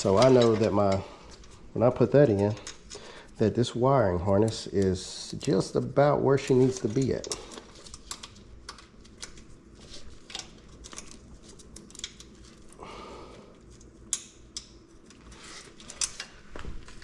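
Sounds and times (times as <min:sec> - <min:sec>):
light rustling of wiring: 0:00.0 - 0:12.8, 0:13.5 - 0:17.0.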